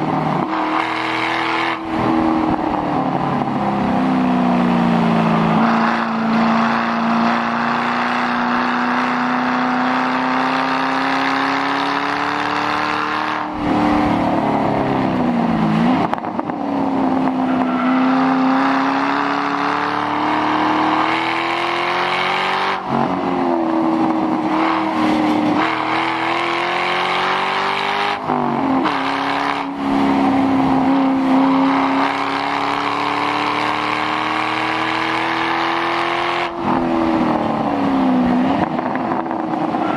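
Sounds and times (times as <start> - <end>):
car engine revving hard: 0.0 - 3.9, 4.5 - 39.9.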